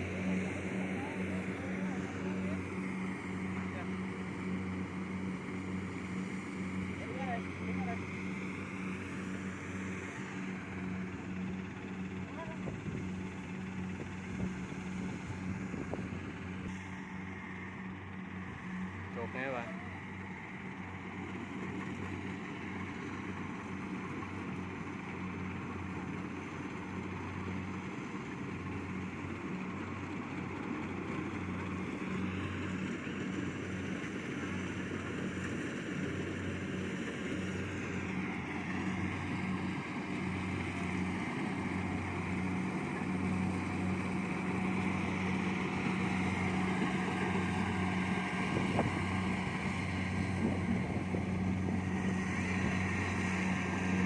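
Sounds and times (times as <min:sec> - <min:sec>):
combine harvester engine and machinery: 0:00.0 - 0:54.0.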